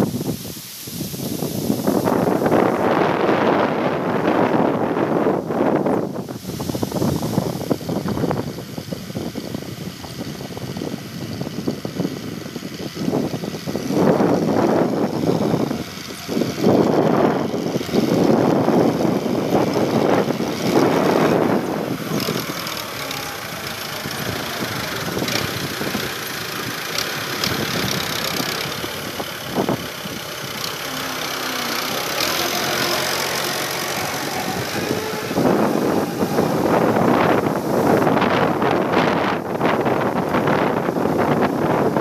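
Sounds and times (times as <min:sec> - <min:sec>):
tractor diesel engine under load: 0:00.0 - 0:42.0
wind buffeting microphone: 0:00.0 - 0:42.0.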